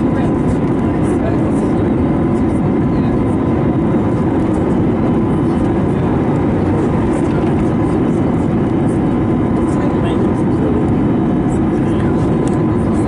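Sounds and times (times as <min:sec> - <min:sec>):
airliner cabin engine roar: 0:00.0 - 0:13.0.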